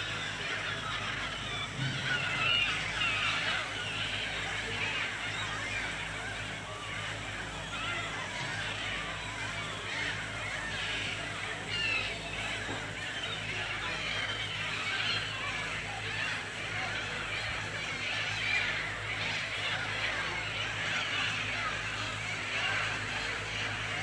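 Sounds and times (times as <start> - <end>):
gulls calling: 0.0 - 24.0.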